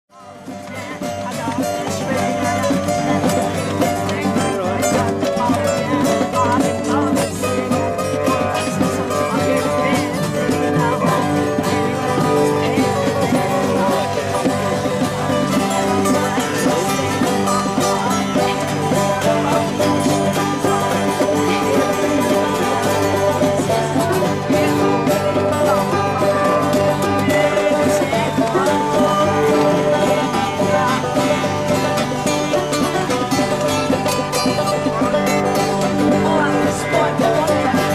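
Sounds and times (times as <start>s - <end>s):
banjo: 0.1s - 37.9s
guitar strummed: 0.1s - 37.9s.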